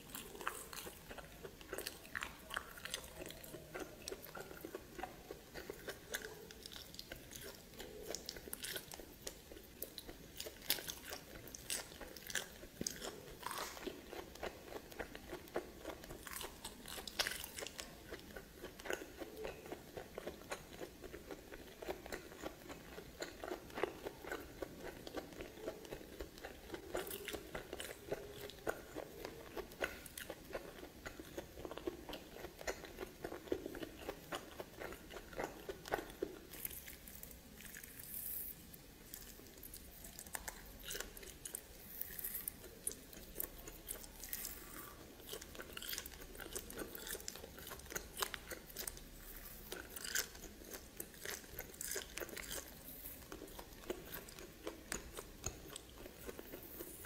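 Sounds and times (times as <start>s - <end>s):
person chewing with mouth clicks: 0.0s - 57.0s.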